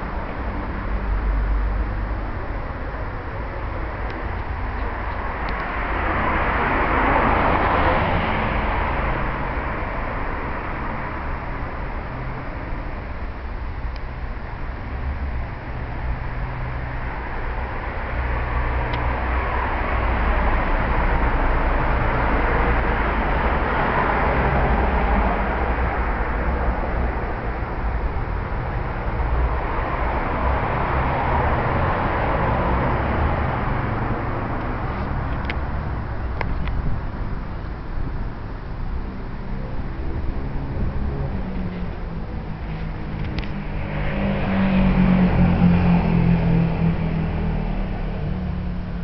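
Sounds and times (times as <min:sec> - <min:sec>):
street traffic rushing: 0:00.0 - 0:49.0.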